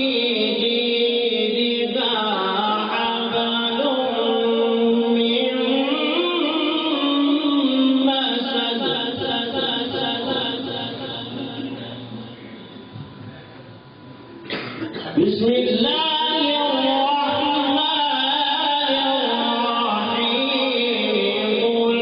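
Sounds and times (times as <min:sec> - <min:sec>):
man chanting melodically: 0:00.0 - 0:13.2, 0:15.0 - 0:22.0.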